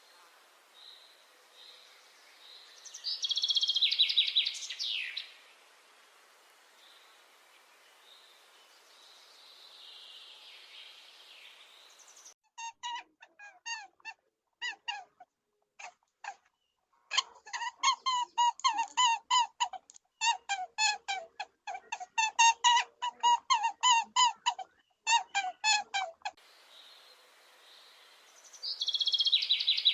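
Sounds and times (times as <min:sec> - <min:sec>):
faint background noise: 0:00.0 - 0:29.9.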